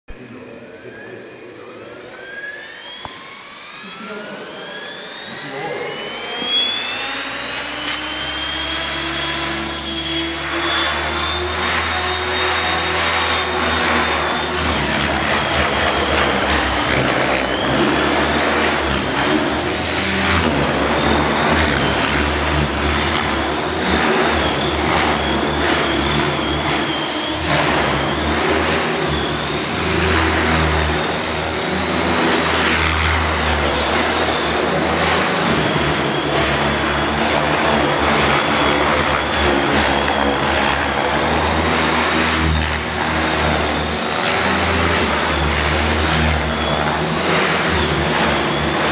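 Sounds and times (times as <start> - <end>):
rc helicopter motor whine: 0.1 - 48.9.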